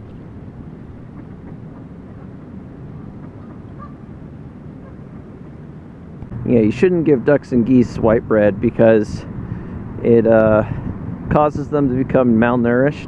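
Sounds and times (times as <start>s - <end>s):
low rumble: 0.0s - 11.4s.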